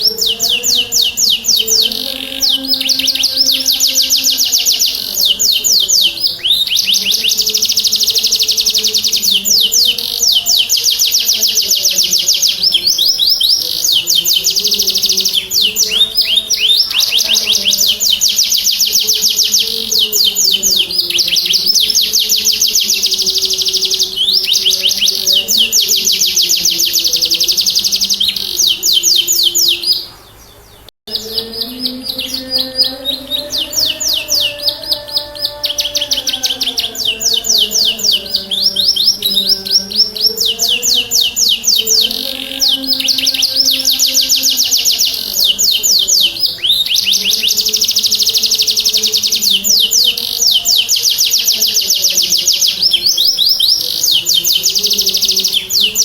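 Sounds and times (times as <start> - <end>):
canary singing rapid high notes: 0.0 - 56.0.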